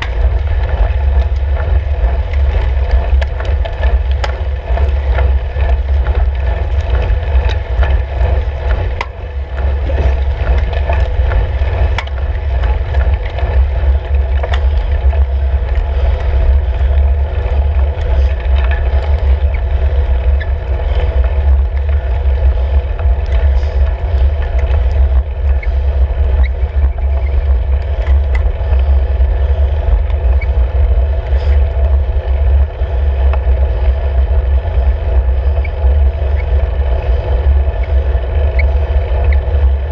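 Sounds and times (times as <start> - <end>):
road vibration rumble: 0.0 - 39.9.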